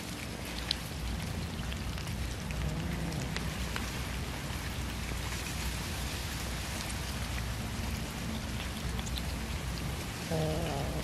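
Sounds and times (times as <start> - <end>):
cats chewing wetly: 0.0 - 11.0
steady low rumble: 0.0 - 11.0.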